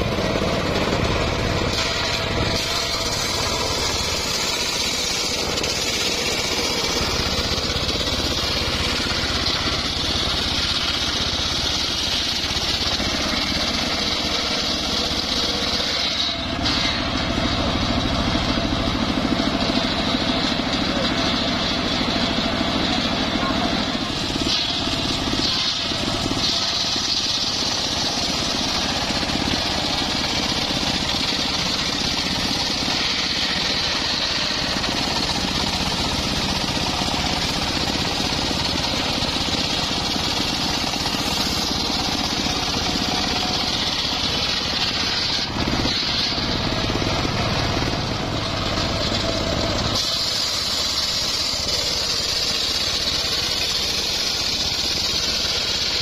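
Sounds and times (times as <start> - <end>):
circular saw motor running: 0.0 - 56.0
saw blade ripping a log: 1.6 - 17.4, 24.3 - 47.7, 49.0 - 56.0.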